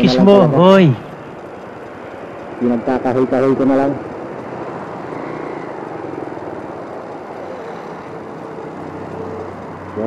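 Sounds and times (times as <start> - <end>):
faint engine hum: 0.0 - 10.0
road noise: 0.0 - 10.0.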